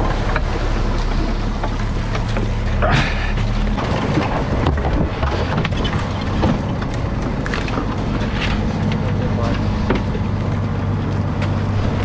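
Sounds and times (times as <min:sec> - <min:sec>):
boat engine humming: 0:00.0 - 0:12.0
gear knocking and clicking: 0:00.0 - 0:12.0.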